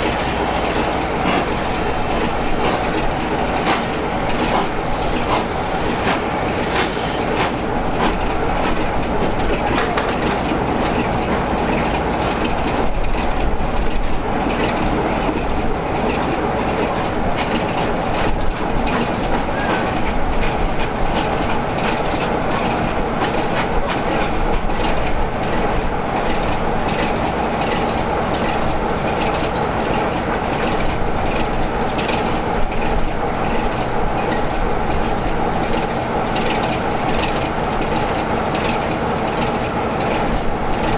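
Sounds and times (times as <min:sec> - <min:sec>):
train rumbling on track: 0:00.0 - 0:40.9
wheel clicks over rail joints: 0:00.7 - 0:40.9.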